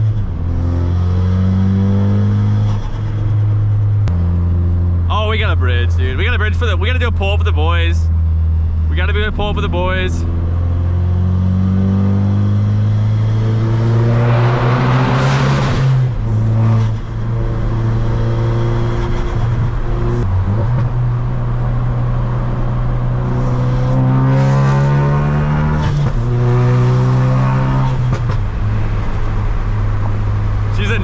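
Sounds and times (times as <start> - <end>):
car engine at full throttle: 0.0 - 31.0.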